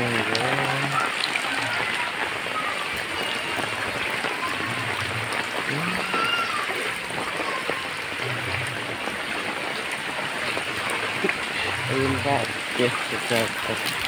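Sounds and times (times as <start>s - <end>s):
heavy rain on water and roofs: 0.0s - 14.0s.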